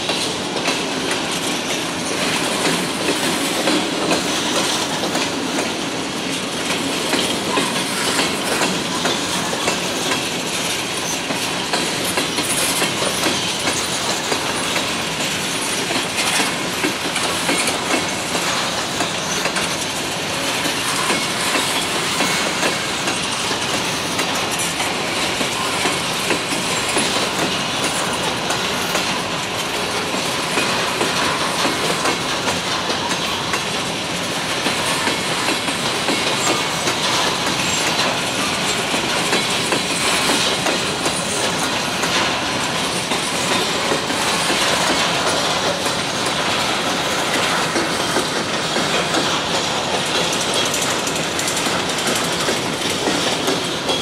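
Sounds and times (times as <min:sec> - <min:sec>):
clickety-clack over rail joints: 0:00.0 - 0:54.0
train wheels rolling rumble: 0:00.0 - 0:54.0.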